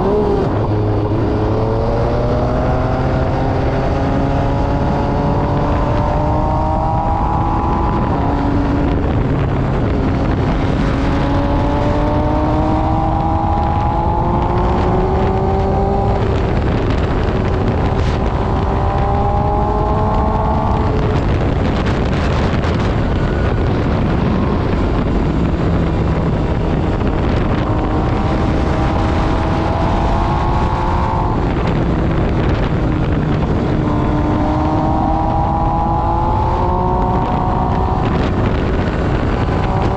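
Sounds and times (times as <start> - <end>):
motorcycle engine pulling hard: 0.0 - 39.9.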